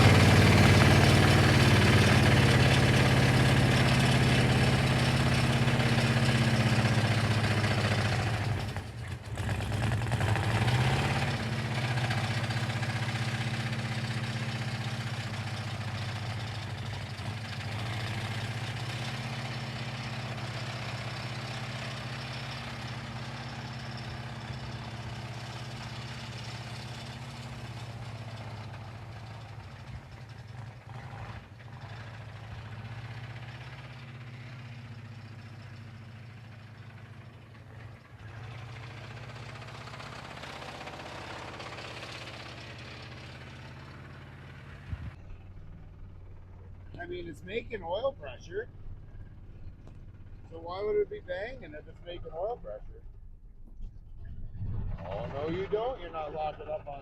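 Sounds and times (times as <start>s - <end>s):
damaged engine idling: 0.0s - 57.0s.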